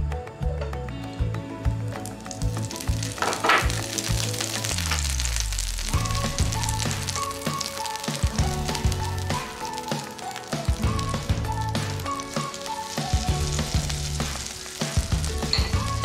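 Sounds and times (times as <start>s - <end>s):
background music: 0.0s - 16.0s
butter sizzling in a frying pan: 2.0s - 16.0s.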